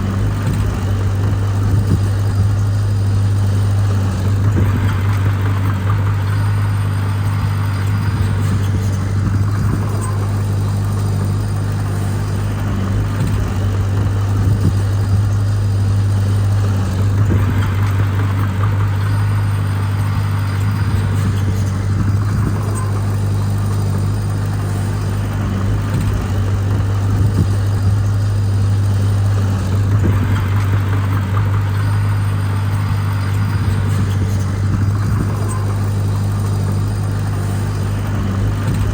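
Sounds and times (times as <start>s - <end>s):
heavy diesel engine droning: 0.0s - 38.9s
rough machinery working sound: 0.0s - 38.9s.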